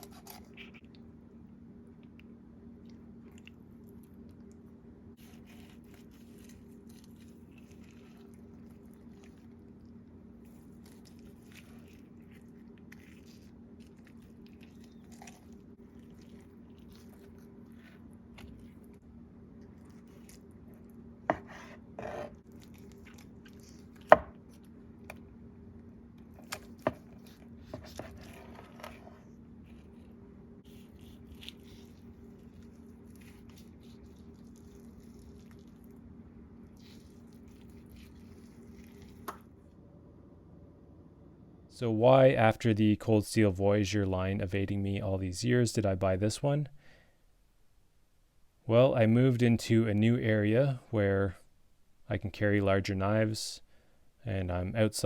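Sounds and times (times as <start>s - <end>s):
low hum: 0.0s - 46.3s.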